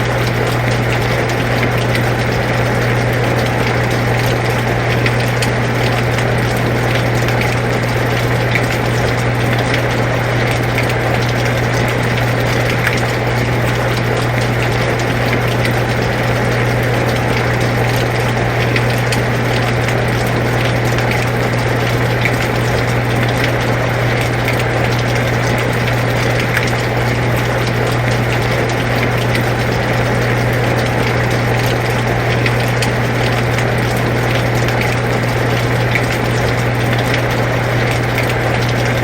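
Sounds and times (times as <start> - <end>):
air conditioner humming: 0.0 - 39.0
rain falling: 0.0 - 39.0.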